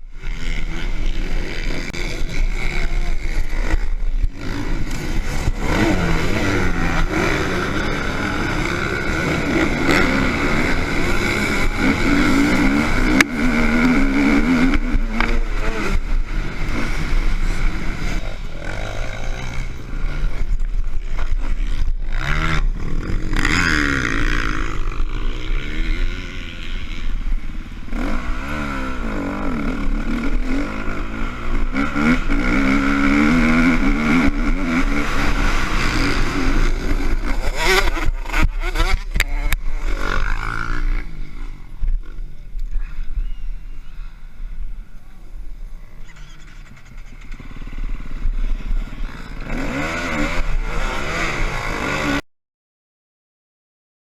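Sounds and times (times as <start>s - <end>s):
motocross bikes revving: 0.0s - 52.2s.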